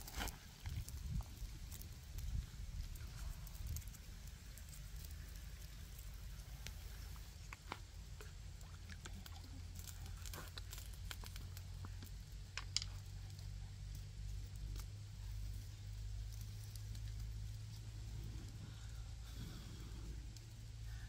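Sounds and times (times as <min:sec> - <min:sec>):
low steady rumble: 0:00.0 - 0:21.0
wood fire crackling: 0:00.0 - 0:21.0.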